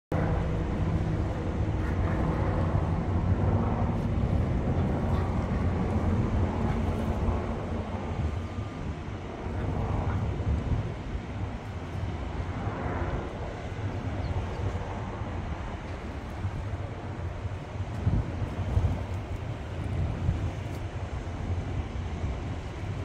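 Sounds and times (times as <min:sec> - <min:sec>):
low engine rumble: 0:00.1 - 0:23.0.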